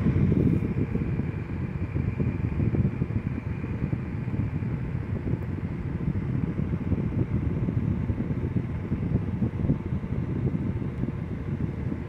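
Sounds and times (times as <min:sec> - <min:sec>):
air buffeting microphone: 0:00.0 - 0:12.0
desk fan running: 0:00.0 - 0:12.0.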